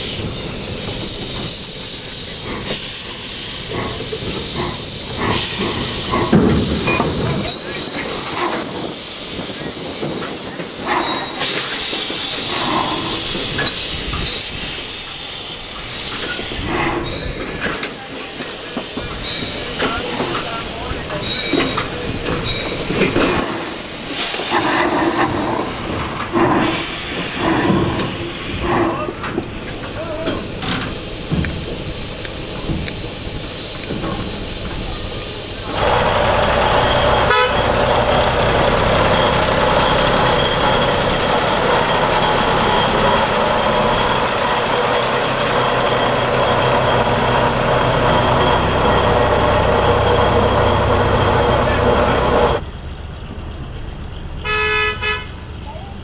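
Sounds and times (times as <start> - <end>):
steam locomotive hissing steam: 0.0 - 52.6
diesel locomotive engine drone: 0.0 - 56.0.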